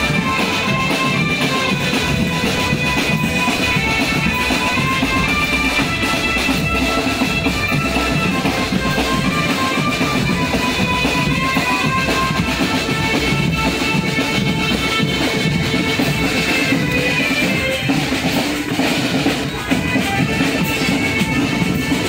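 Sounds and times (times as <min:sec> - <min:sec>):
drums: 0:00.0 - 0:22.0
held melody notes: 0:00.0 - 0:22.0.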